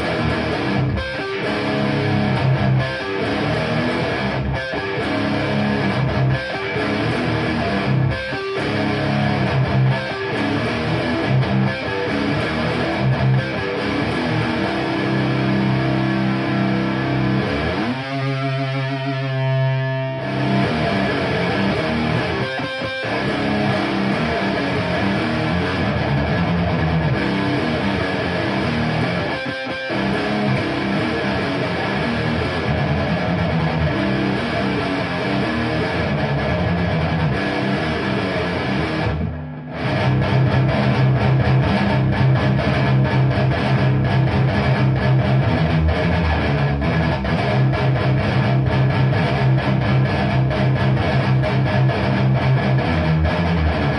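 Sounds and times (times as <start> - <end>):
electric guitar riffing: 0.0 - 53.9.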